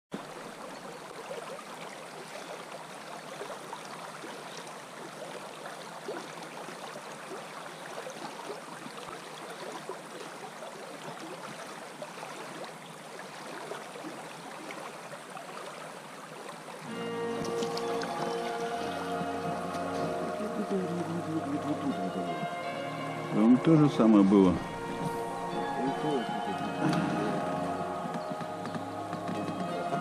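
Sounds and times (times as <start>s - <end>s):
river water rushing: 0.2s - 30.0s.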